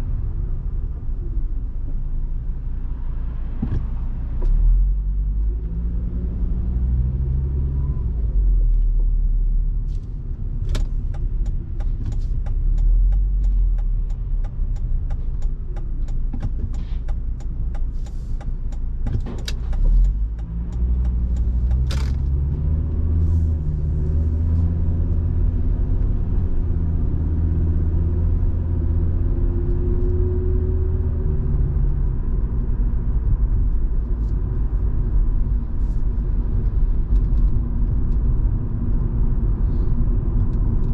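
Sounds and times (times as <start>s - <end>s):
car engine: 0.0s - 40.9s
road rumble: 0.0s - 40.9s.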